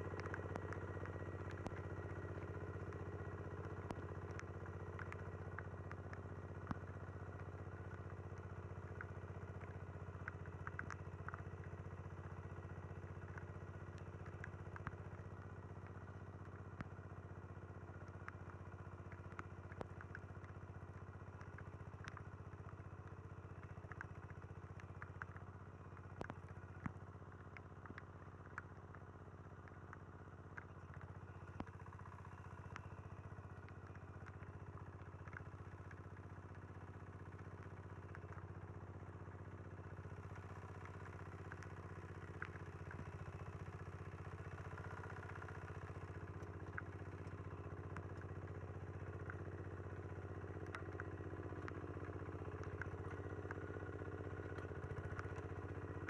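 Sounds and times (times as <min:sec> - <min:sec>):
sharp clicks and clatter: 0:00.0 - 0:56.0
small engine running under load: 0:00.0 - 0:56.0.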